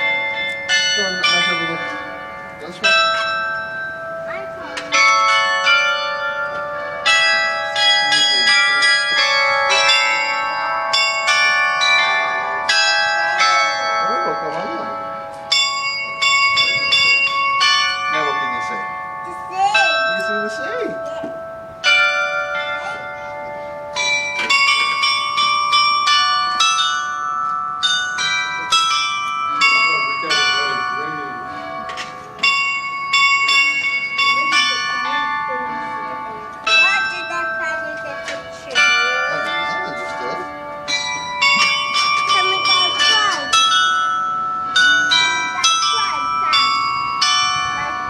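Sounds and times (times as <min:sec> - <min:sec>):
tower bells ringing: 0:00.0 - 0:48.0.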